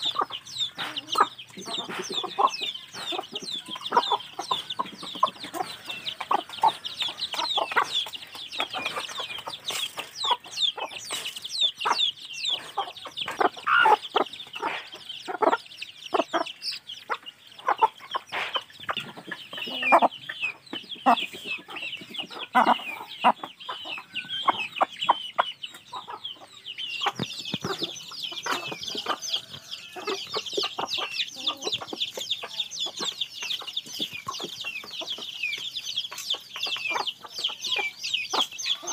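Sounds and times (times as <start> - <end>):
chicks peeping: 0.0 - 38.9
hens clucking: 0.0 - 38.9.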